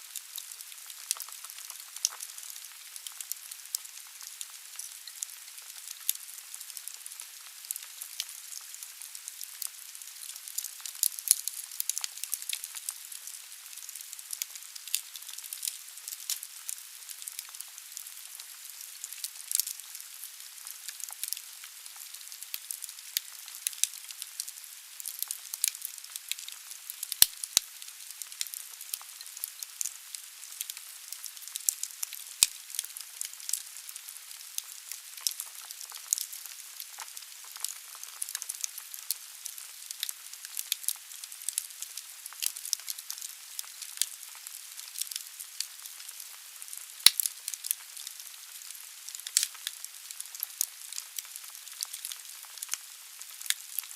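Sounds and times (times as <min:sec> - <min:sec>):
wood fire crackling: 0:00.1 - 0:53.9.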